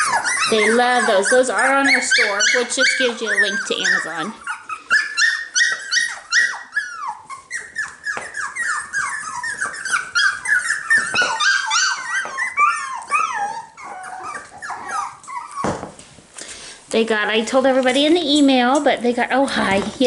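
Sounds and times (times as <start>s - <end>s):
puppies whining and yipping: 0.0s - 16.4s.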